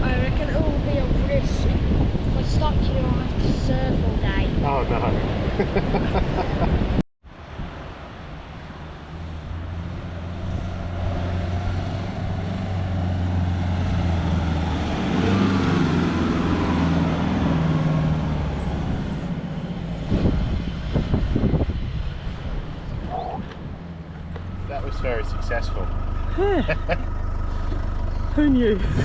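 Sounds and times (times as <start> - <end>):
car engine running hard: 0.0 - 29.0.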